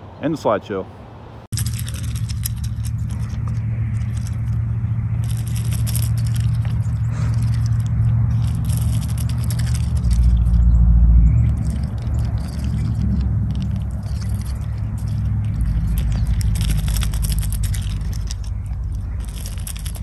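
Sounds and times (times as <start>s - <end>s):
steady low rumble: 1.4s - 20.0s
duck bill pecking corn: 1.5s - 20.0s.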